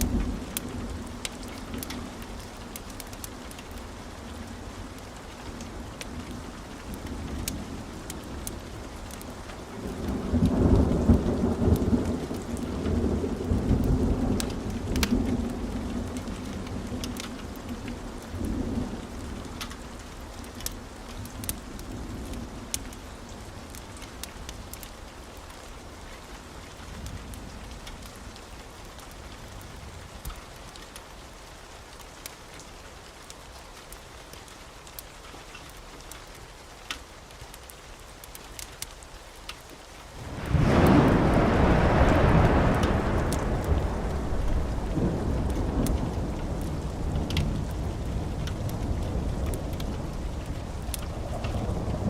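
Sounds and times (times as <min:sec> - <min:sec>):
fire crackling and popping: 0:00.0 - 0:25.6, 0:26.7 - 0:31.0, 0:33.2 - 0:52.0.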